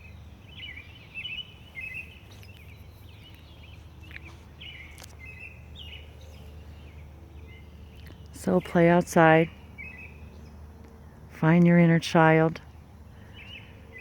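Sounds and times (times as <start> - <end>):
small songbirds chirping: 0.0 - 14.0.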